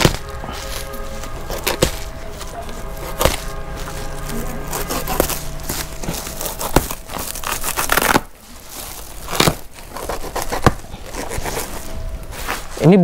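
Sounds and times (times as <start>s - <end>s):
plastic sack rustling and tearing: 0.0s - 13.0s.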